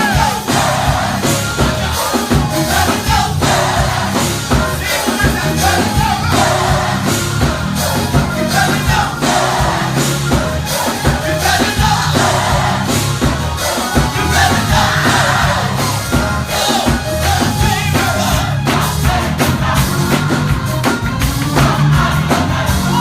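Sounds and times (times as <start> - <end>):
bass line: 0.0 - 23.0
drum beat: 0.0 - 23.0
gospel choir singing: 0.0 - 23.0.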